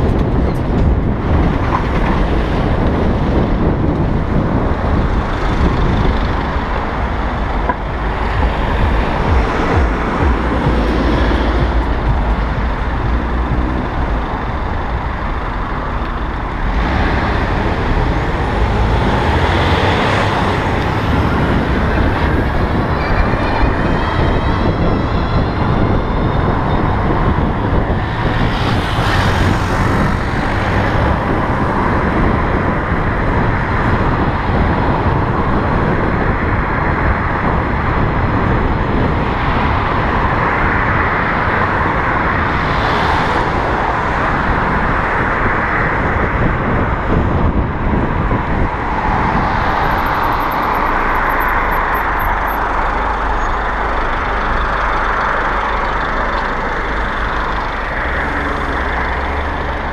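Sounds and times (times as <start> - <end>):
road noise: 0.0 - 59.9
traffic: 0.0 - 59.9
wind rushing: 0.0 - 59.9.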